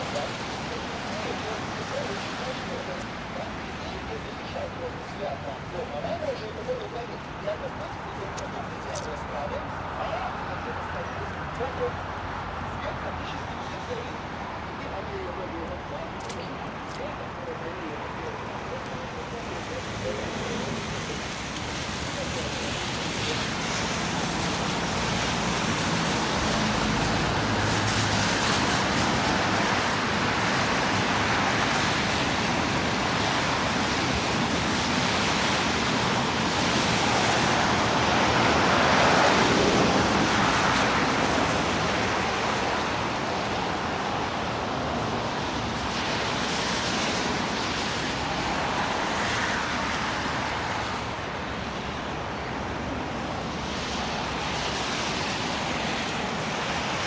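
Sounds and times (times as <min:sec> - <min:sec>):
street traffic: 0:00.0 - 0:57.0
wind: 0:00.0 - 0:57.0.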